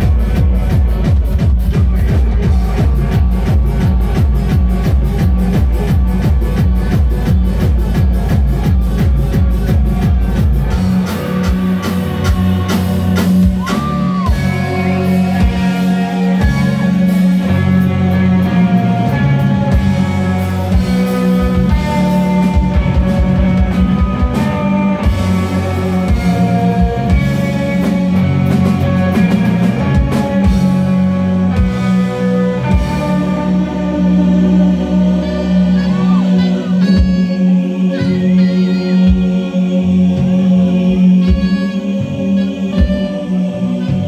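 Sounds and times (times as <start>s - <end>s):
rock band playing: 0.0s - 44.0s.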